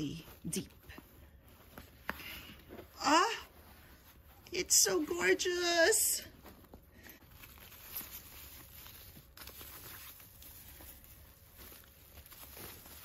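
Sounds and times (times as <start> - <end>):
bag handling rustle: 0.0 - 13.0
tissue paper crinkling: 0.0 - 13.0.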